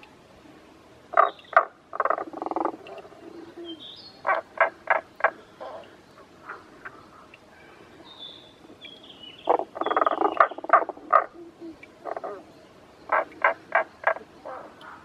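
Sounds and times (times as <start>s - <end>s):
frogs croaking: 1.1s - 15.0s.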